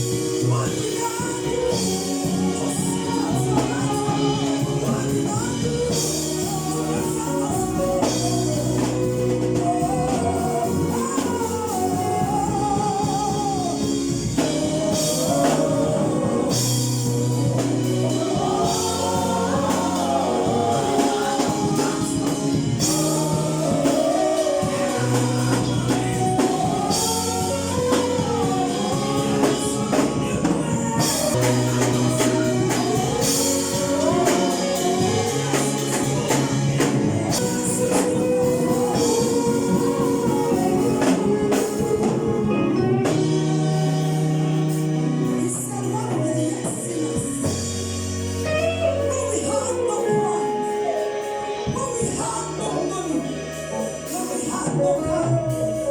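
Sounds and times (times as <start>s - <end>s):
bass line: 0.0s - 55.9s
choir singing gospel: 0.0s - 55.9s
steady percussion: 0.0s - 55.9s.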